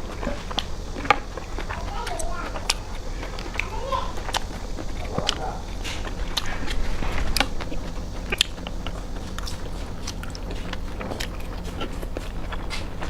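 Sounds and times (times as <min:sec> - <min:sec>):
mouth clicks and smacks: 0:00.0 - 0:13.0
person biting and chewing: 0:00.2 - 0:13.0.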